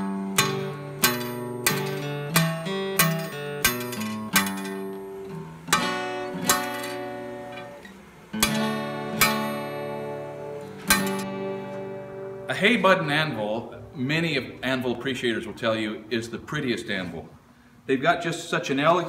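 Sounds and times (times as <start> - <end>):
acoustic guitar strumming: 0.0 - 17.7.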